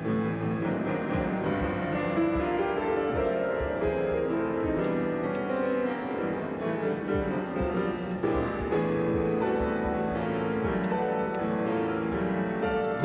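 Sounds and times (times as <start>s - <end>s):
grand piano playing fast notes: 0.0s - 13.0s.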